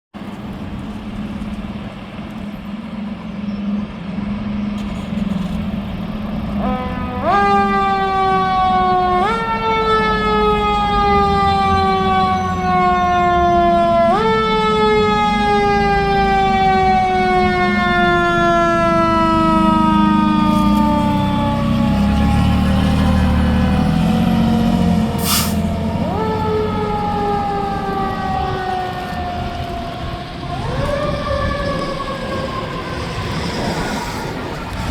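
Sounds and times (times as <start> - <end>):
fire truck engine: 0.1 - 34.9
fire truck siren: 4.2 - 34.9.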